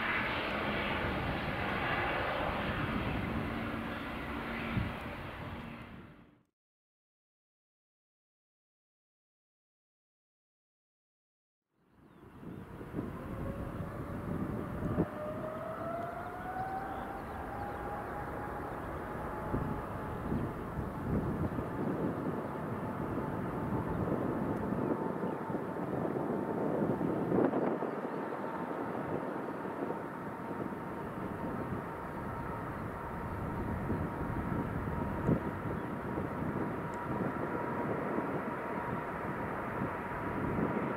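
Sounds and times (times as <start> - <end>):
jet engines spooling up: 0.0 - 6.3, 12.3 - 40.9.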